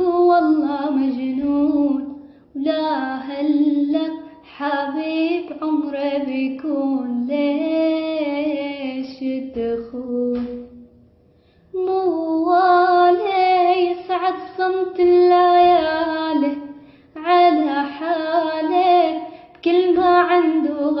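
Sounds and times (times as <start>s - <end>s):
woman singing unaccompanied: 0.0s - 10.9s, 11.8s - 21.0s.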